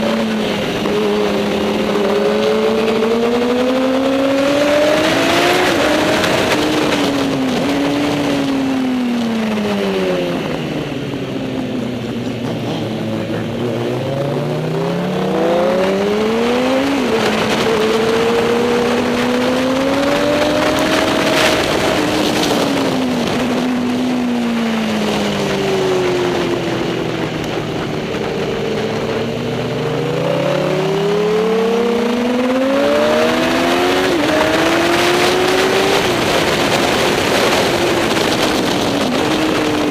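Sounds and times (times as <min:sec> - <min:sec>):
racing motorbike engine: 0:00.0 - 0:39.9.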